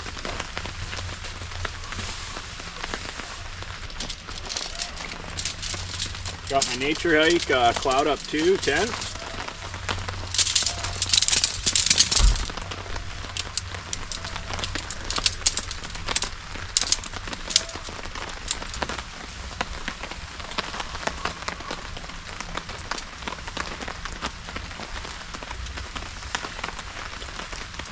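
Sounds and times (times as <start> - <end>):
faint rain hiss: 0.0 - 27.9
gear rustling and crinkling: 0.0 - 27.9
rain drops ticking: 0.0 - 27.9.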